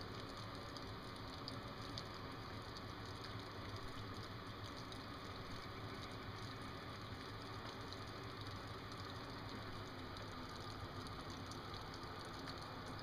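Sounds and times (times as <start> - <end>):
tiny ticks: 0.1 - 13.0.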